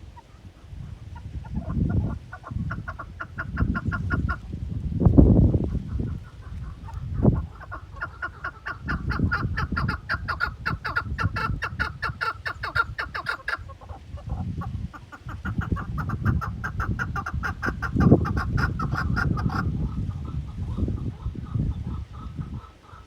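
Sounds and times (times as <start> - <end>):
partridge clucking call: 1.2 - 4.4, 5.9 - 23.0.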